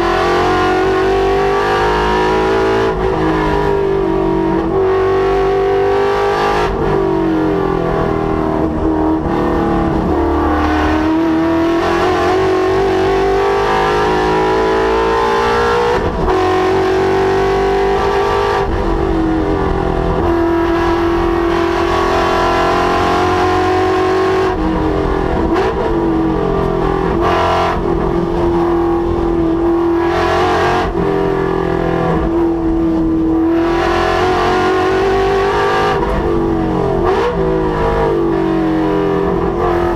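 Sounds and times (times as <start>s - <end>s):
car engine revving at full throttle: 0.0s - 39.9s.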